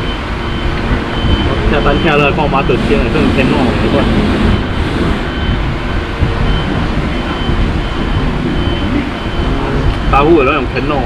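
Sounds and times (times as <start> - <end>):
heavy vehicle rumbling: 0.0 - 11.0.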